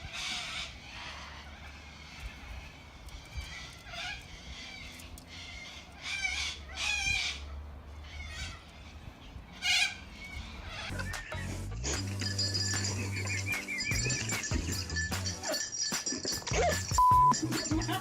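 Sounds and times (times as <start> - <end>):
bird harsh calls: 0.0 - 11.7, 12.5 - 16.0.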